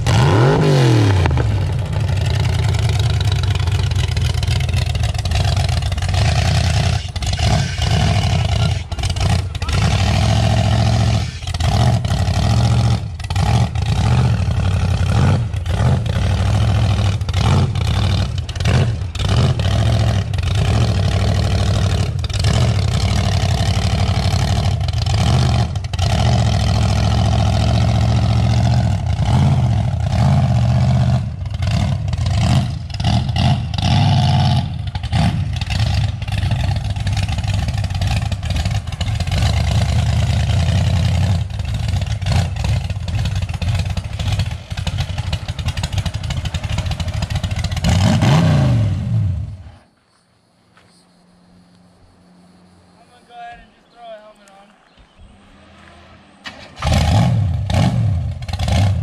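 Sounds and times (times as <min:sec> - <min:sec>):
truck engine revving under load: 0:00.0 - 0:49.8, 0:54.7 - 0:59.0.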